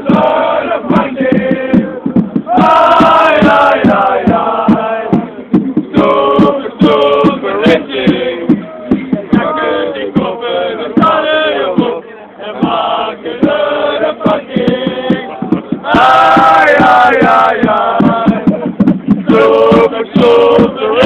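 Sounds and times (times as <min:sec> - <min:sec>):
crowd of men chanting: 0:00.0 - 0:08.6, 0:09.2 - 0:21.0
sharp rhythmic beats: 0:00.0 - 0:21.0.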